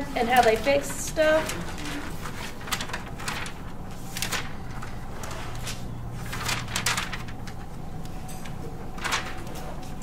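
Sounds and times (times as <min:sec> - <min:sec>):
low room hum: 0:00.0 - 0:10.0
paper rustling: 0:00.2 - 0:10.0.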